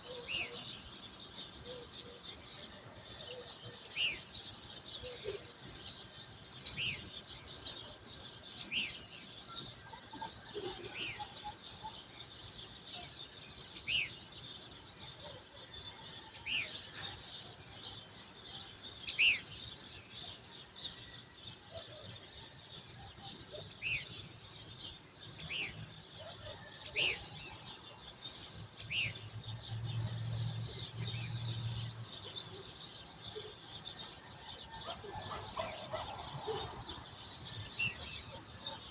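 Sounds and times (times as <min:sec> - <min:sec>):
high twittering of many birds: 0:00.0 - 0:38.9.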